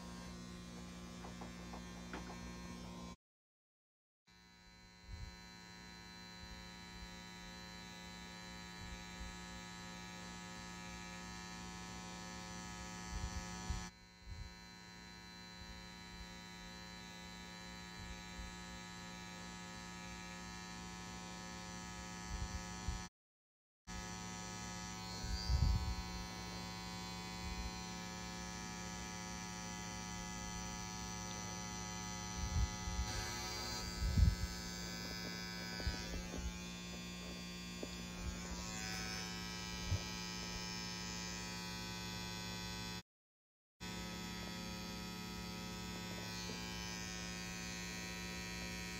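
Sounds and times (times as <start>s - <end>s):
tattoo machine humming: 0.0s - 3.2s, 4.3s - 23.1s, 23.9s - 43.0s, 43.8s - 48.9s.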